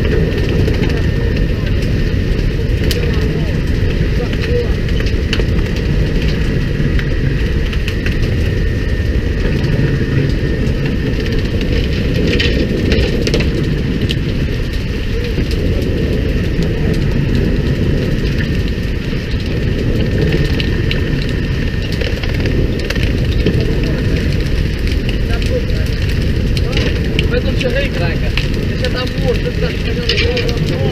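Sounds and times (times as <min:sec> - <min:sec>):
boat engine rumble: 0:00.0 - 0:30.9.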